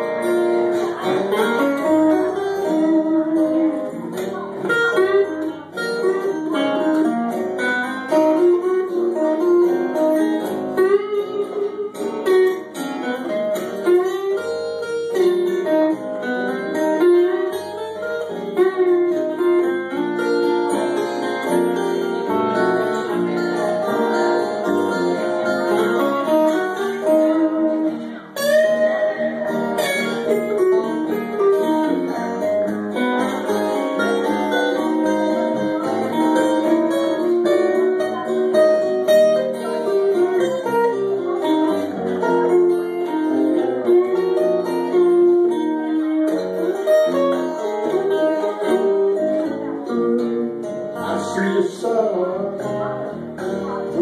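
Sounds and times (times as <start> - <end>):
acoustic guitars playing: 0.0 - 54.0.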